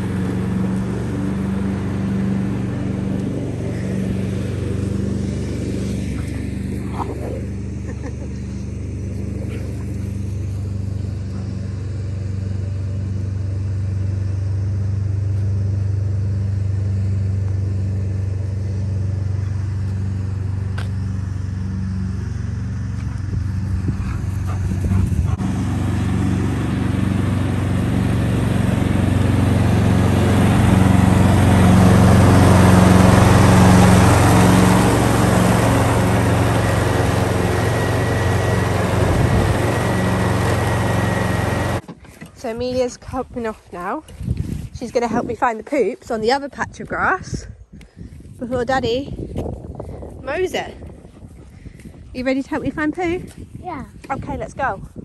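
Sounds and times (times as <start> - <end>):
mower cutting deck rush: 0.0 - 45.3
ride-on lawn mower engine: 0.0 - 47.4.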